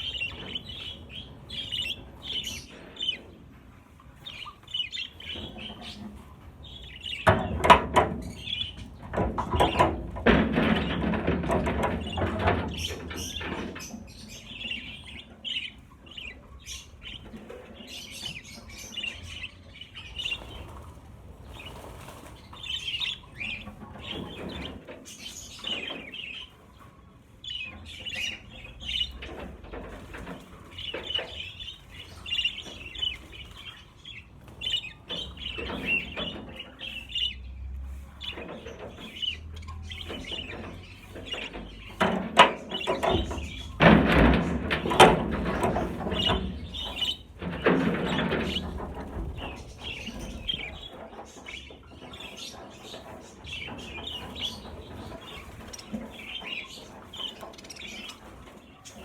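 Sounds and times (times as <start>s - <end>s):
budgerigars chattering: 0.0s - 3.4s, 4.2s - 20.7s, 22.5s - 59.0s.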